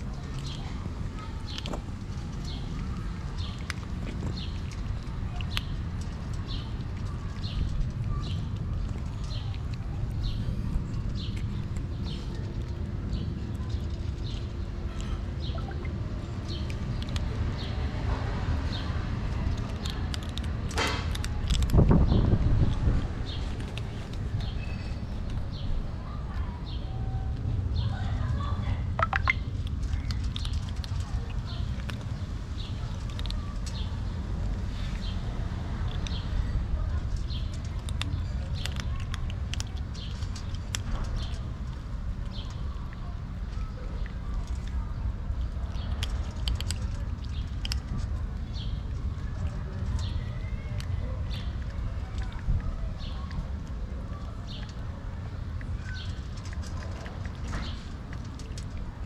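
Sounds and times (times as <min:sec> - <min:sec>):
cats crunching dry kibble: 0:00.0 - 0:59.0
low outdoor rumble: 0:00.0 - 0:59.0.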